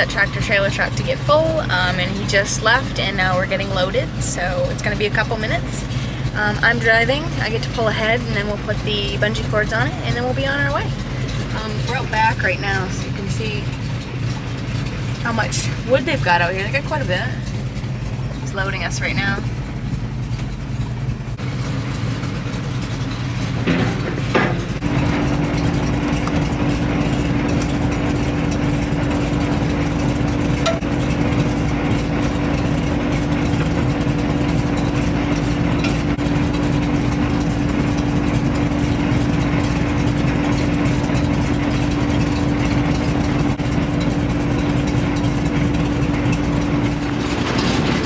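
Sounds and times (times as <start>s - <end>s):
heavy truck engine idling: 0.0s - 48.0s.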